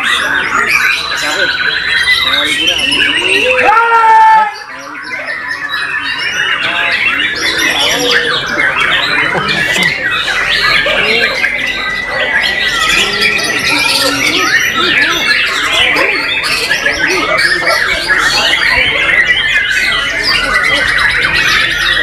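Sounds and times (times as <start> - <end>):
songbird chorus: 0.0 - 3.7, 4.3 - 22.0.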